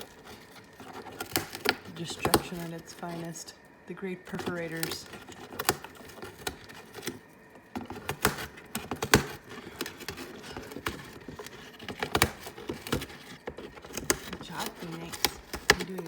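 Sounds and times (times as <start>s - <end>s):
parrot shredding chew toy: 0.0s - 3.5s, 4.3s - 16.0s.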